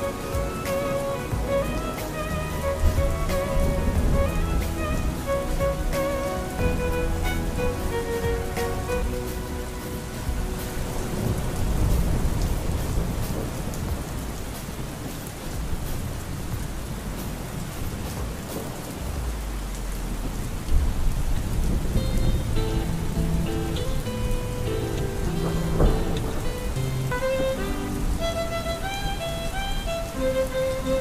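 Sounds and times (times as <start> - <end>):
heavy rain: 0.0 - 31.0
thunder rumbling: 0.0 - 31.0.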